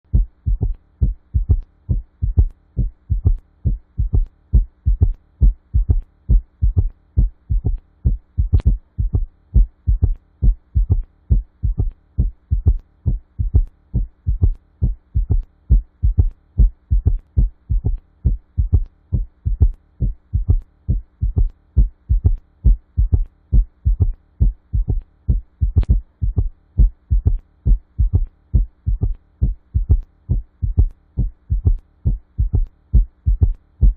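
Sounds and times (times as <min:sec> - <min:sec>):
galloping heartbeat thuds: 0:00.1 - 0:33.9.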